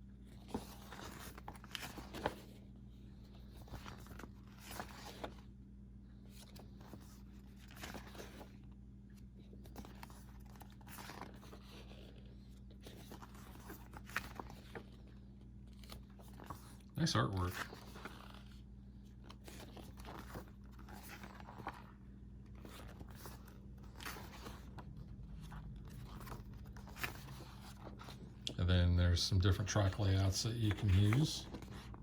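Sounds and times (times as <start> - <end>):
paper pages rustling: 0.2 - 5.5, 6.1 - 28.5, 29.4 - 32.0.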